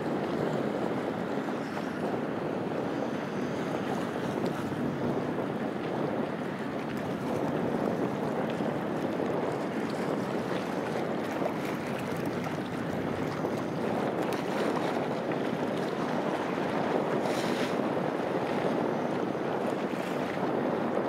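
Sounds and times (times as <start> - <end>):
water lapping: 0.0 - 21.0
wind buffeting microphone: 0.0 - 21.0.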